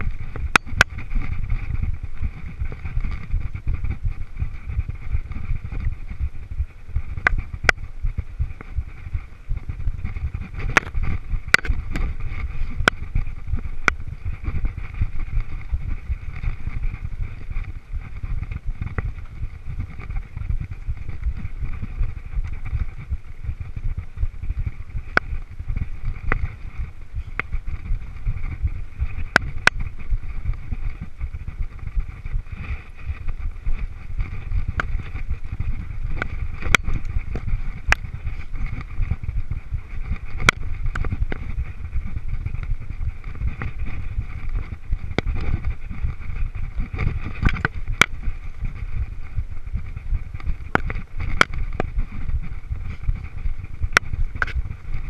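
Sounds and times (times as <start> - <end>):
bike rattling over trail: 0.0 - 55.0
wind rumble on microphone: 0.0 - 55.0.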